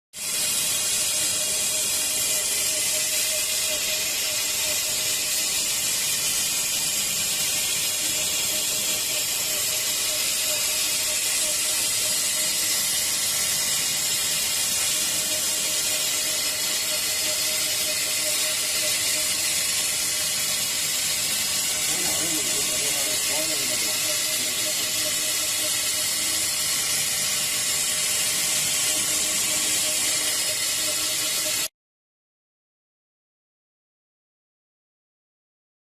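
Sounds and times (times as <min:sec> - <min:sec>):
cutting machine hissing: 0:00.2 - 0:31.7.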